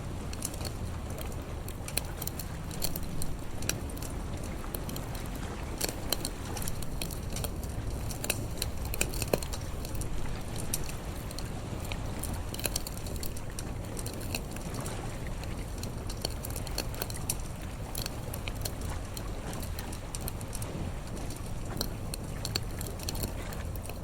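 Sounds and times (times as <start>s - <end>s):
campfire crackling and popping: 0.0s - 24.0s
sea rumbling: 0.0s - 24.0s.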